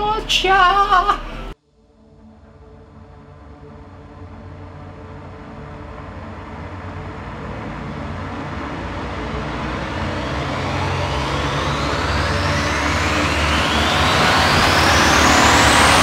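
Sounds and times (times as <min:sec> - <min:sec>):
rising whine: 0:01.3 - 0:16.0
low rumble: 0:01.4 - 0:16.0.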